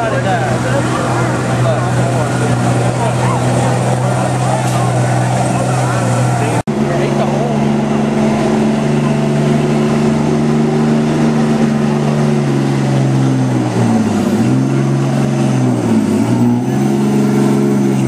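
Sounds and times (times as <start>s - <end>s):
diesel truck engine revving hard: 0.0s - 18.0s.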